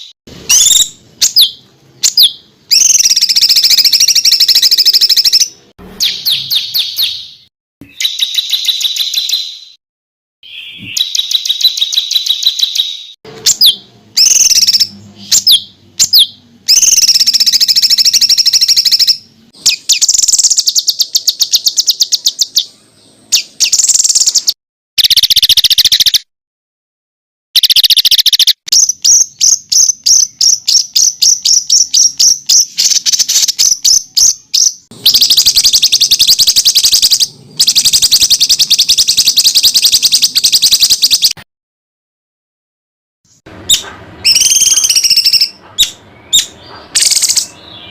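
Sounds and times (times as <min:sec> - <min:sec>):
songbirds trilling sharp high notes: 0:00.0 - 0:09.8, 0:10.4 - 0:26.3, 0:27.6 - 0:41.4, 0:43.5 - 0:47.9.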